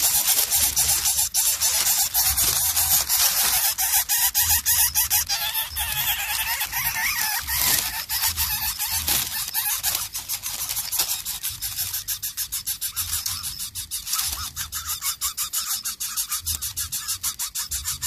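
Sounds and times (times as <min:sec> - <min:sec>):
nestlings begging with rasps: 0:00.0 - 0:18.0.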